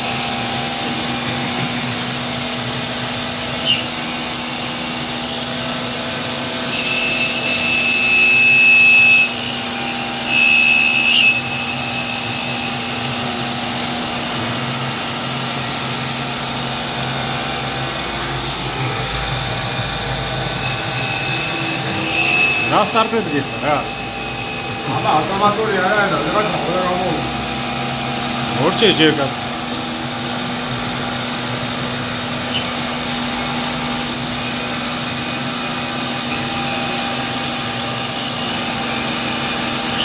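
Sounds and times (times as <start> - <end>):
milling machine humming: 0.0 - 40.0
high-pitched cutting squeal: 3.4 - 29.9, 32.1 - 40.0.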